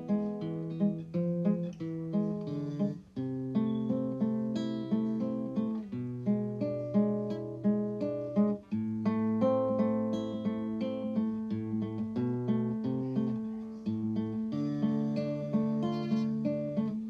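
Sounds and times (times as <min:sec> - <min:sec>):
acoustic guitar plucking: 0:00.0 - 0:17.0.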